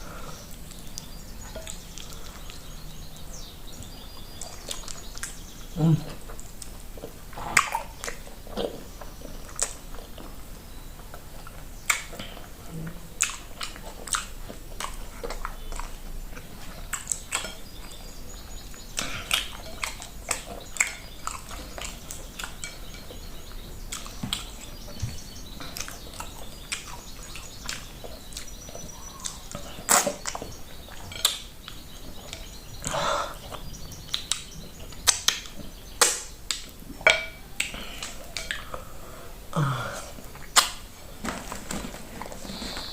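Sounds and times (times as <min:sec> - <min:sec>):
chewing with wet smacks: 0:00.3 - 0:03.0, 0:03.8 - 0:38.9, 0:40.2 - 0:40.9.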